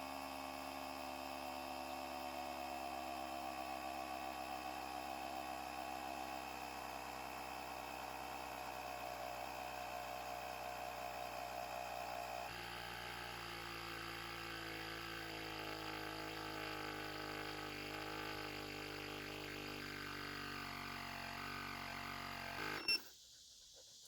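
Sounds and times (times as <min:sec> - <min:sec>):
electric tyre inflator buzzing: 0:00.0 - 0:23.1.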